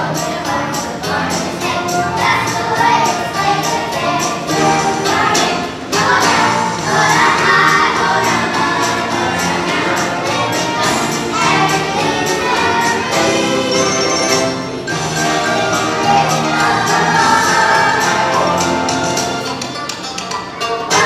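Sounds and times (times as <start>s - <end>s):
children singing: 0.0s - 21.0s
instrumental accompaniment: 0.0s - 21.0s.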